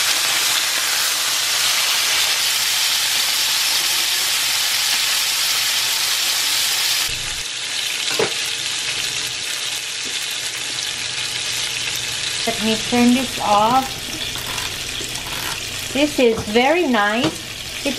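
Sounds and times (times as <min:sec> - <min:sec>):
burger patties sizzling on grill: 0:00.0 - 0:17.9.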